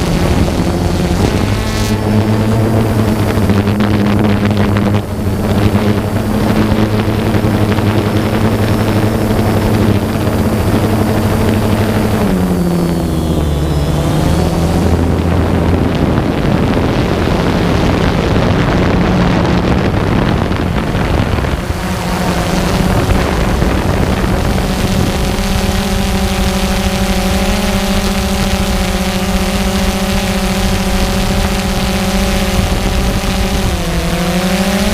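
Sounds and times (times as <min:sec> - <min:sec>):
aircraft propellers humming: 0:00.0 - 0:34.9
wind on microphone: 0:00.0 - 0:34.9.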